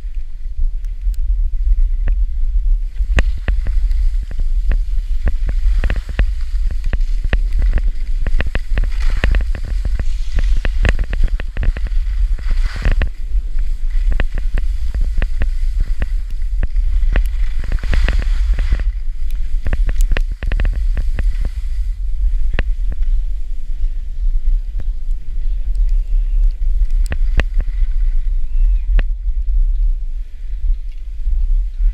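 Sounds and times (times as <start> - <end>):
wind rumble on microphone: 0.0 - 31.9
skis scraping over snow: 2.7 - 28.8.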